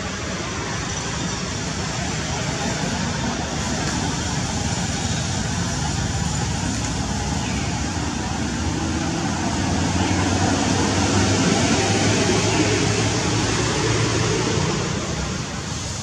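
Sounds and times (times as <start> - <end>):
motor traffic rumble and hiss: 0.0 - 16.0.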